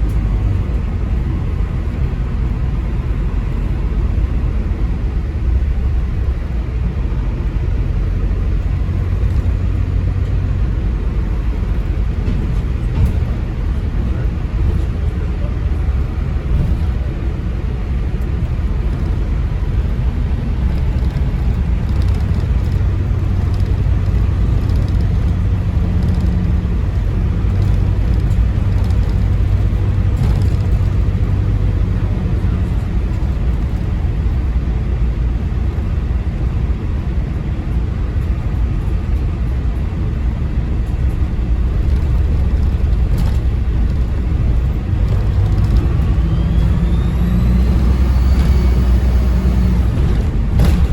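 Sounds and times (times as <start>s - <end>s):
bus diesel engine drone: 0.0s - 50.9s.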